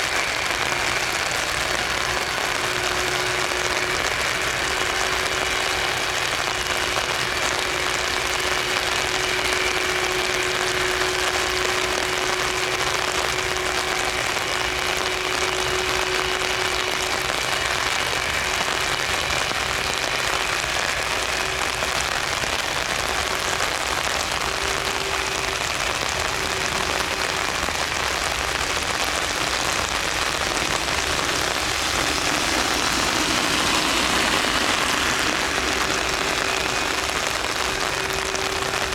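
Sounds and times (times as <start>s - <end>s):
jet engines hissing and whining: 0.0s - 38.9s.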